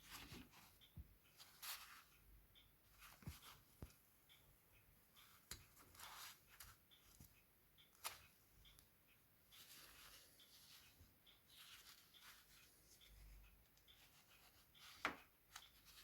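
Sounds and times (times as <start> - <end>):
faint clicks of small parts: 0.0 - 16.0.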